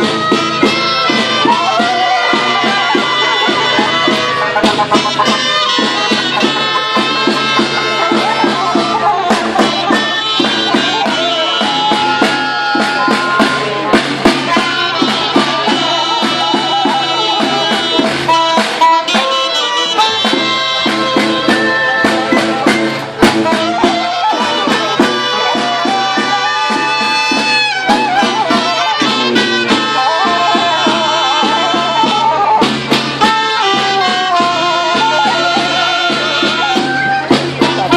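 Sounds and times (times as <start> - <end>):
folk music ensemble playing: 0.0 - 37.9.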